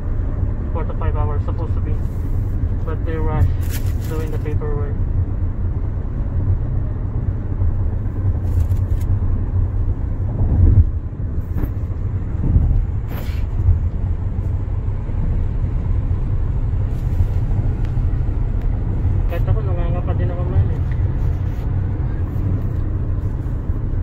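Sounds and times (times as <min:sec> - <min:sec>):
car cabin road and engine rumble: 0:00.0 - 0:24.0.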